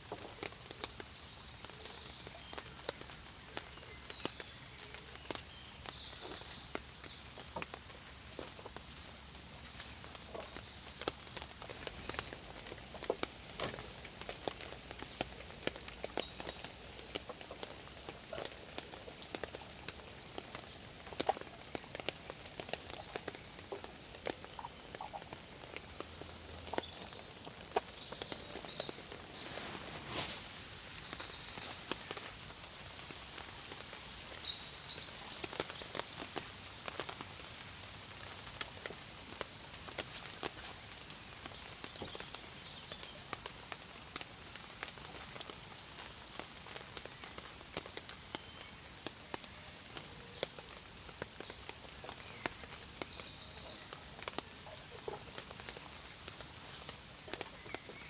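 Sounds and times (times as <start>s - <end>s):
rain hiss: 0.0s - 58.0s
raindrops tapping: 0.0s - 58.0s.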